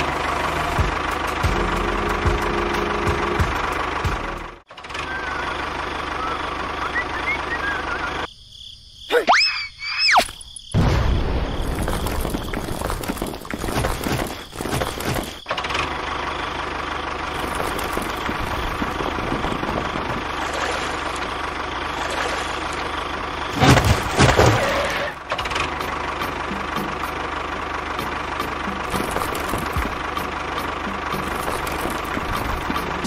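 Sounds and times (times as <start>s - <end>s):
tractor engine idling: 0.0s - 8.3s, 11.7s - 33.0s.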